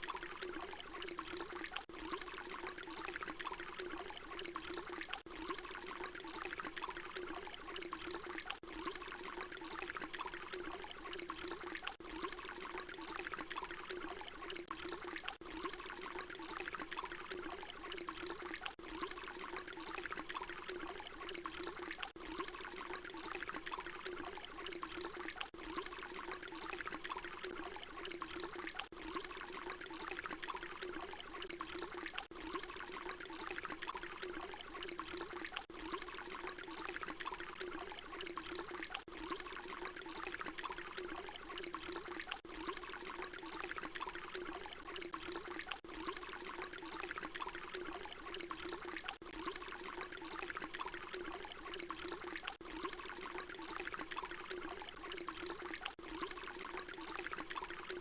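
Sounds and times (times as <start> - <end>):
water pouring: 0.0 - 58.0.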